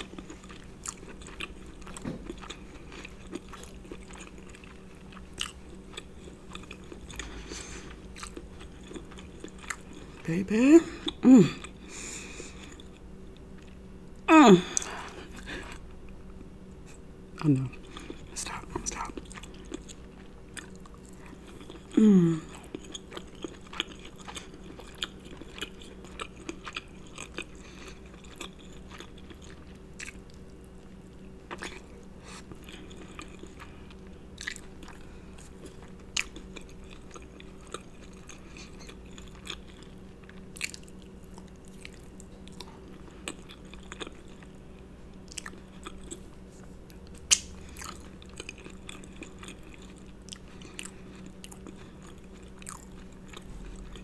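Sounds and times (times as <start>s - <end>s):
wet chewing and lip smacking: 0.0s - 10.3s, 17.4s - 44.6s, 45.2s - 54.0s
refrigerator hum: 0.0s - 54.0s.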